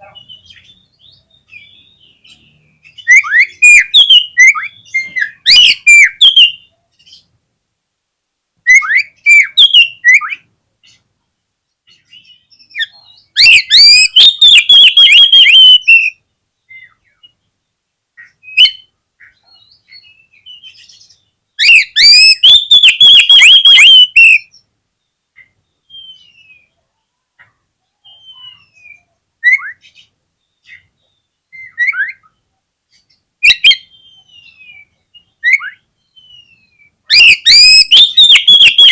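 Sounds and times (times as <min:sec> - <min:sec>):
bird singing whistled notes: 0:00.0 - 0:07.3, 0:08.6 - 0:11.0, 0:11.9 - 0:17.5, 0:18.2 - 0:26.8, 0:28.0 - 0:38.9.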